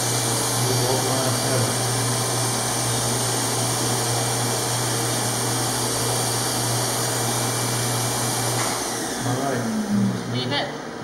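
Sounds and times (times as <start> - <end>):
smoke evacuator suction hiss: 0.0 - 10.0.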